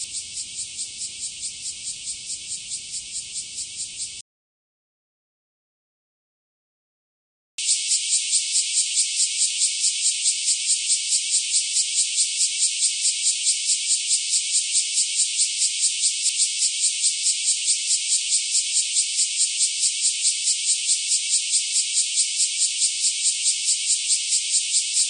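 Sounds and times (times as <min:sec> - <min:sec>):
cicada buzzing: 0:00.0 - 0:04.2, 0:07.6 - 0:25.0.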